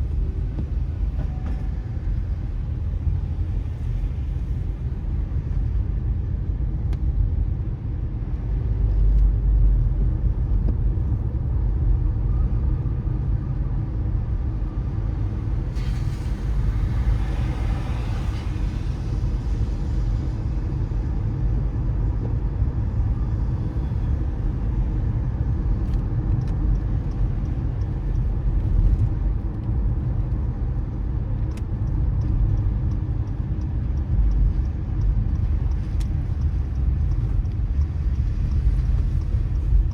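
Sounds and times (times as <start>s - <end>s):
car engine and tyres on wet road: 0.0s - 39.9s.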